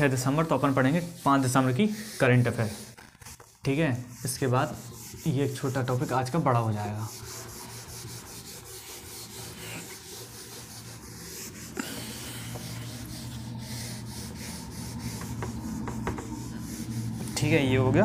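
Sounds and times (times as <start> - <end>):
scratching strokes of writing: 0.0 - 17.7
steady low hum: 0.0 - 18.0.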